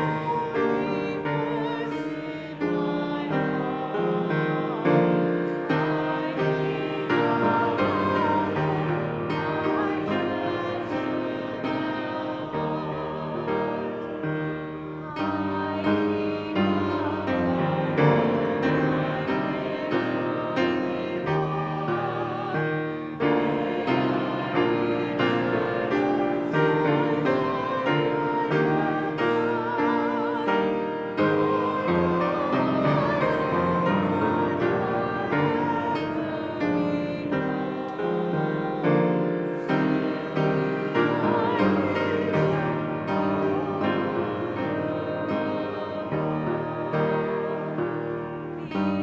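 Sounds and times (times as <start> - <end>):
piano accompaniment: 0.0 - 49.0.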